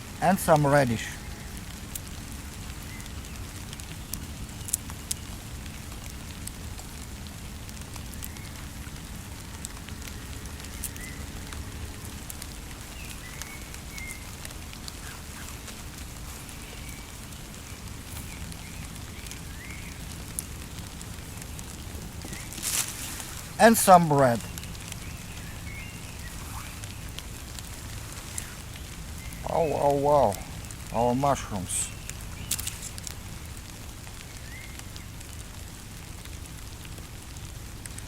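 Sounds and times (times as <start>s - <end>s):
campfire crackling and popping: 0.0s - 38.0s
rain hiss: 0.0s - 38.0s.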